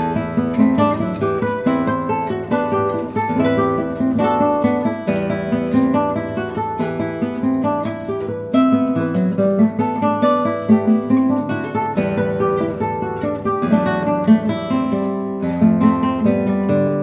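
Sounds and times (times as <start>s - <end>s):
classical guitars playing: 0.0s - 17.0s.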